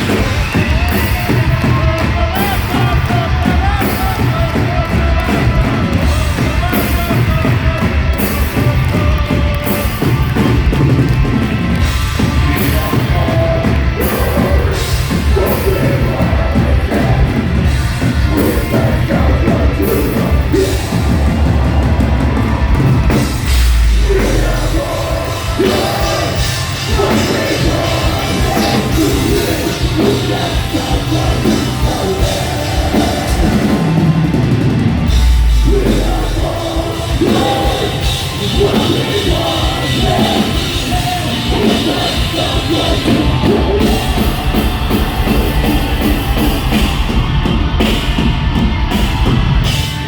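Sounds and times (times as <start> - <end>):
distorted guitars: 0.0 - 50.0
fast dense drumming: 0.0 - 50.0
heavy bass: 0.0 - 50.0
yelled and sung vocals: 0.0 - 50.0.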